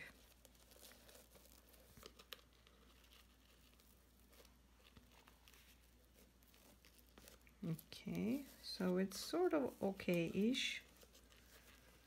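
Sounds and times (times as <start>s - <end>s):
ribbon and card rustling: 0.0s - 12.0s.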